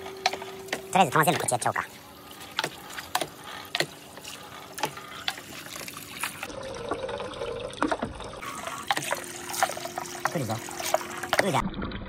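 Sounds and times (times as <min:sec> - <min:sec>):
water trickling into a tub: 0:00.0 - 0:12.0.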